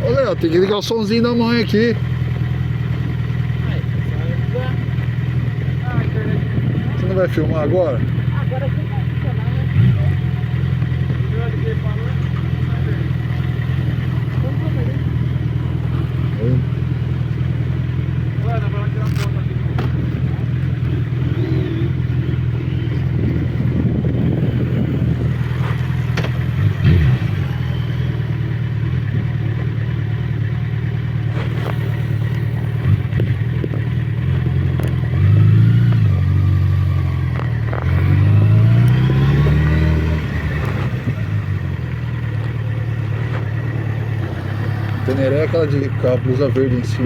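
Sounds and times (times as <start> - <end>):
motorcycle engine idling: 0.0 - 47.0
motorcycle engine revving: 0.0 - 47.0.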